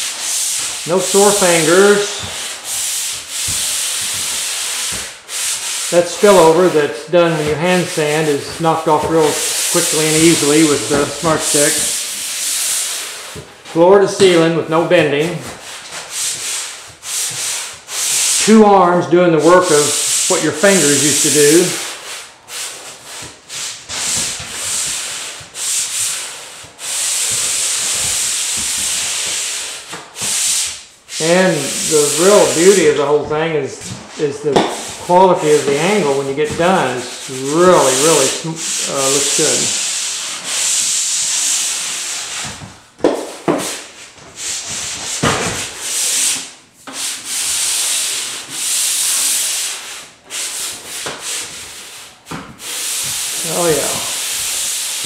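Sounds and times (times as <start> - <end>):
sandpaper scraping drywall: 0.0 - 55.0.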